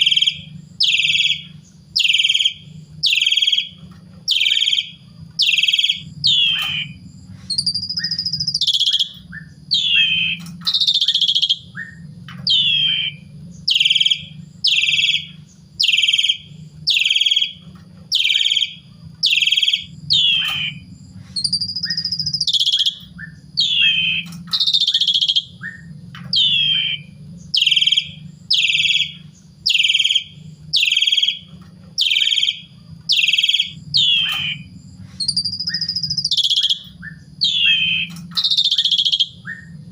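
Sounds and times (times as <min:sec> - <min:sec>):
starling singing: 0:00.0 - 0:39.9
steady low hum: 0:00.0 - 0:39.9.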